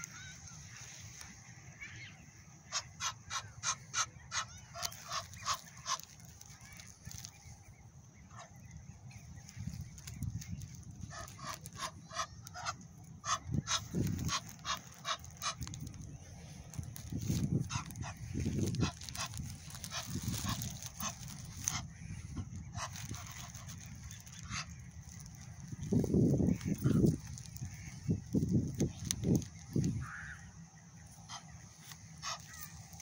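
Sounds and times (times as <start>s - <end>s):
geese honking: 0.0s - 33.0s.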